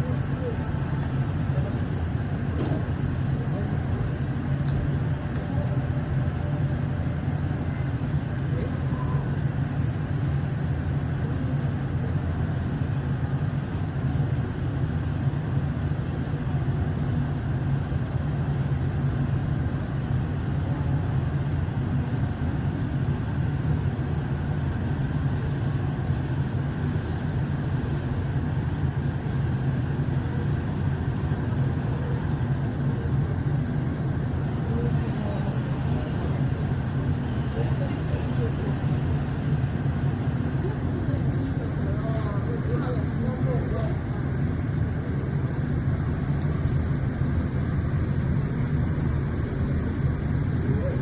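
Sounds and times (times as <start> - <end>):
large fans droning: 0.0 - 51.0.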